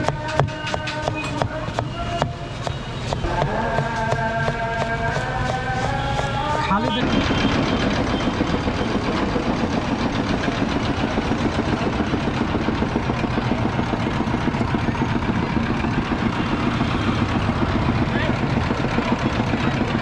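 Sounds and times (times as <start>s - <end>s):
street noise: 0.0s - 20.0s
engine idling: 2.2s - 20.0s.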